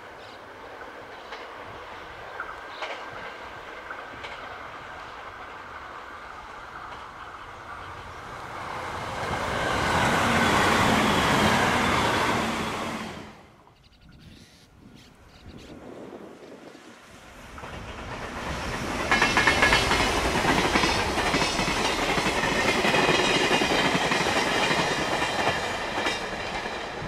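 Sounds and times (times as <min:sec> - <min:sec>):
electric train passing: 0:00.0 - 0:13.8, 0:14.8 - 0:27.0
train wheel clatter: 0:00.2 - 0:12.4, 0:17.3 - 0:27.0.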